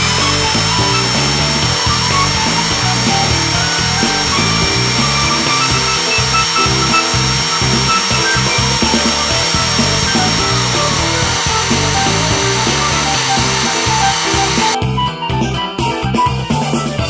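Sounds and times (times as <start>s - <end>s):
electric drill: 0.0s - 14.8s
vacuum cleaner sucking chips: 0.0s - 14.8s
background music: 0.0s - 17.0s.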